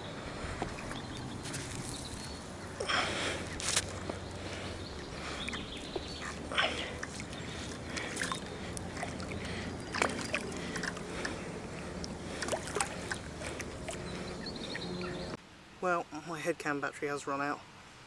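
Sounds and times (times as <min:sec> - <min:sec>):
water splashing and sloshing: 0:00.0 - 0:15.4
low background hum: 0:00.0 - 0:18.0.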